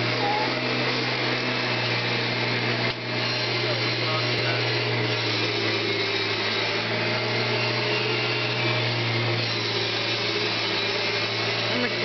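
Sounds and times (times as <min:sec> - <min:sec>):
vacuum cleaner motor running: 0:00.0 - 0:12.0.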